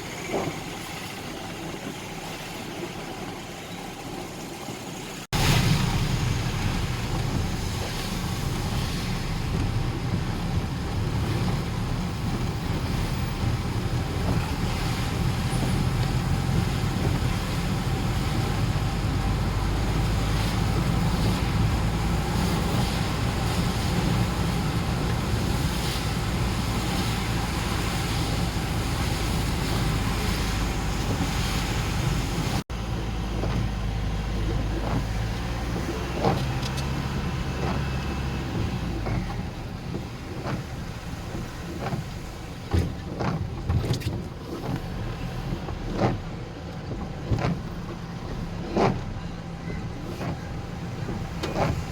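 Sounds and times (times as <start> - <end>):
moving vehicle rumble: 0.0 - 51.9.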